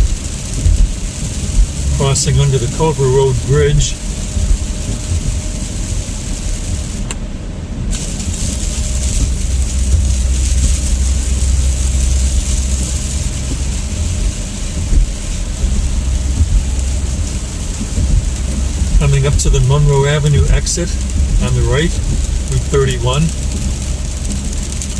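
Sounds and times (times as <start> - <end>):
rain and spray hissing on car: 0.0 - 24.9
tyres and engine rumble: 0.0 - 24.9.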